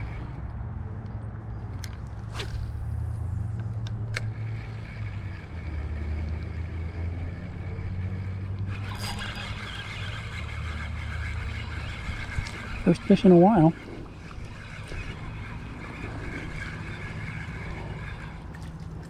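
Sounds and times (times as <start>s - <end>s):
traffic rumble on bridge: 0.0s - 19.0s.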